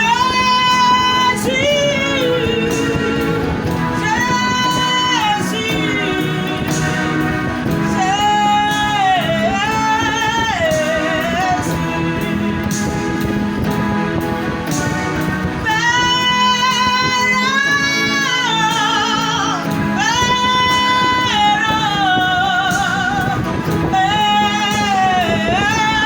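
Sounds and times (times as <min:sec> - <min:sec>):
band accompaniment: 0:00.0 - 0:26.0
person singing with vibrato: 0:00.0 - 0:26.0.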